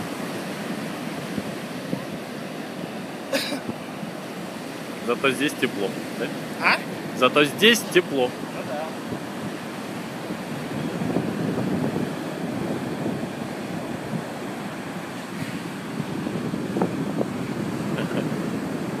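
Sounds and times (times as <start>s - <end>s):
surf breaking on beach: 0.0s - 19.0s
wind buffeting microphone: 0.0s - 19.0s.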